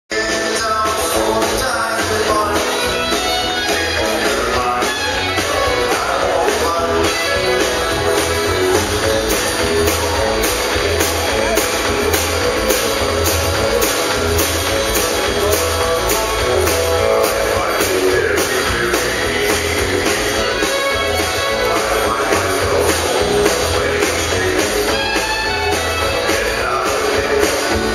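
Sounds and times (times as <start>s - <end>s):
country band playing: 0.1s - 27.9s
steady drum beat: 0.2s - 27.9s.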